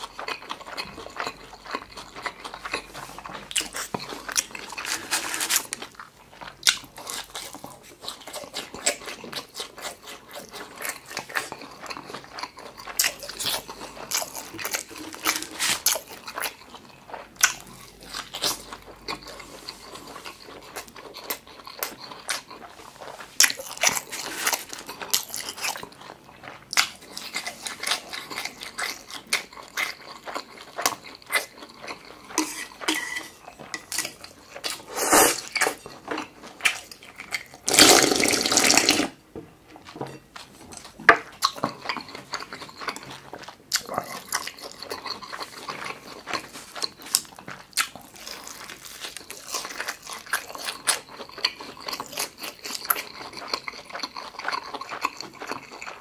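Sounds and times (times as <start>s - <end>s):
close chewing: 0.0s - 56.0s.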